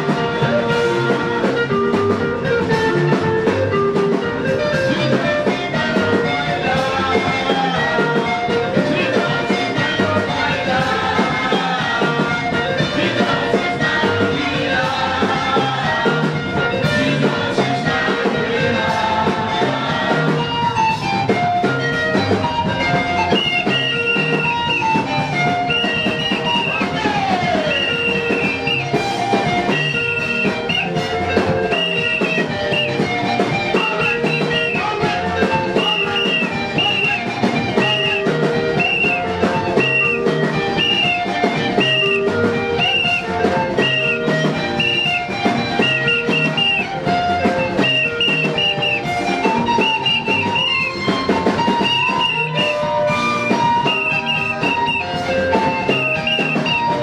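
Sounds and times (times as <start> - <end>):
dance music with guitar and drums: 0.0 - 57.0.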